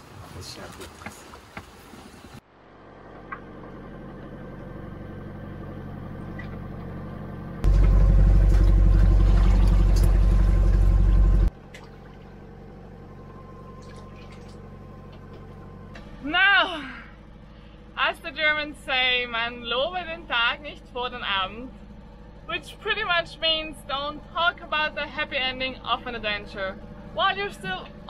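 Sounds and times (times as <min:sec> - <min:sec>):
motor humming: 0:02.5 - 0:28.0.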